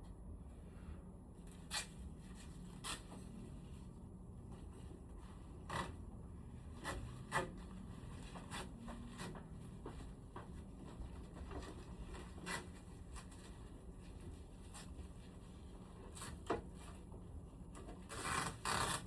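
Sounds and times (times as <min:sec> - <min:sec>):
low steady hum: 0:00.0 - 0:18.3.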